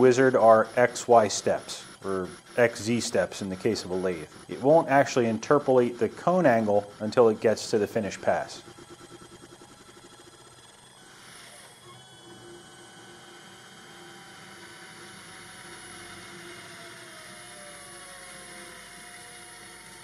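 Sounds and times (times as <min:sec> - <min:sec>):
cnc lathe motor hum and whir: 0:00.0 - 0:20.0
faint falling whines: 0:00.0 - 0:20.0.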